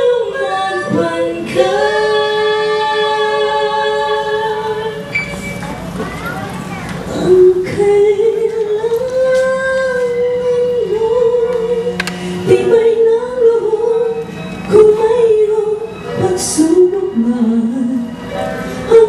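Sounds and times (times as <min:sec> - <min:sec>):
woman singing a ballad: 0:00.0 - 0:05.1, 0:07.1 - 0:19.0
soft instrumental accompaniment: 0:00.0 - 0:19.0.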